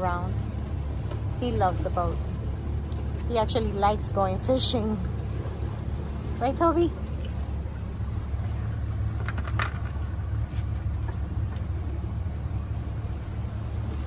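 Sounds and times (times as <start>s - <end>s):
motorboat rumbling: 0.0s - 14.0s.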